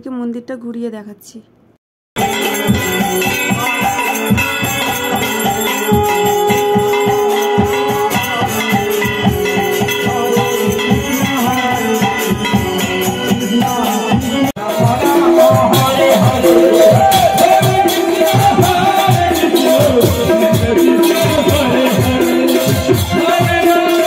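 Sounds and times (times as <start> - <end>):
fast rattling percussion beat: 2.2 - 24.0.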